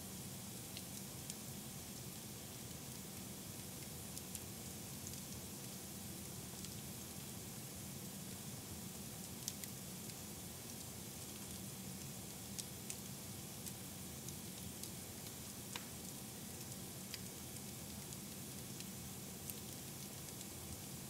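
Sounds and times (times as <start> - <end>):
wood fire crackling: 0.5 - 7.4, 8.2 - 21.0.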